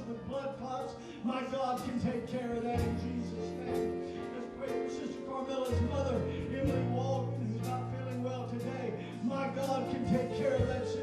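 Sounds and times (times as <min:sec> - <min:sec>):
slow worship band music: 0:00.0 - 0:11.0.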